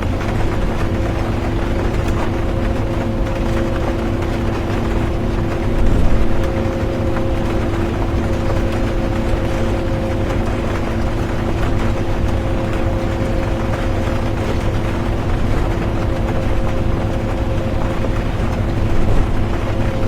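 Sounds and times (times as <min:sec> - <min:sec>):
droning hum: 0:00.0 - 0:20.0.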